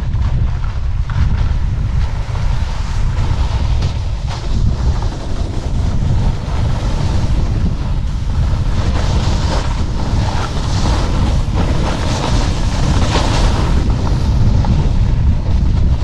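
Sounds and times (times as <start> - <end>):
snowboard scraping over snow: 0.0 - 16.0
wind buffeting microphone: 0.0 - 16.0.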